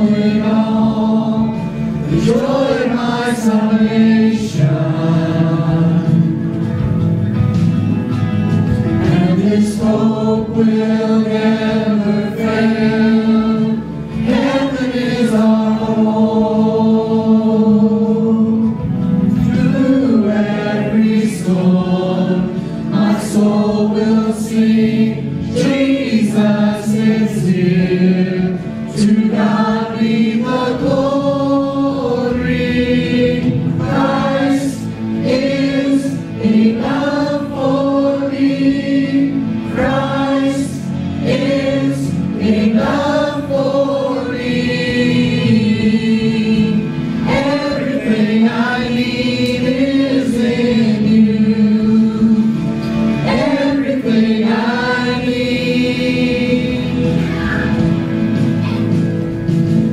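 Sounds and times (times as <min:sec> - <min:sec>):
group singing gospel: 0:00.0 - 0:07.6, 0:08.3 - 0:58.6.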